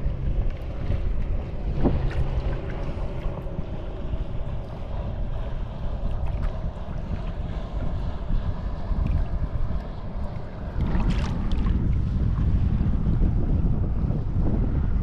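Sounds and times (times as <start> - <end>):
small waves lapping and splashing: 0.0 - 14.9
wind buffeting microphone: 0.0 - 15.0.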